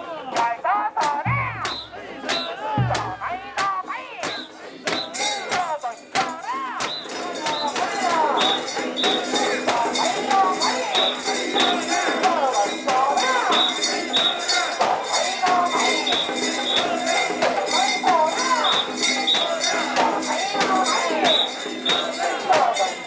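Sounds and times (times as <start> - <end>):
people chanting rhythmically: 0.0 - 23.0
bells jangling rhythmically: 1.5 - 23.0.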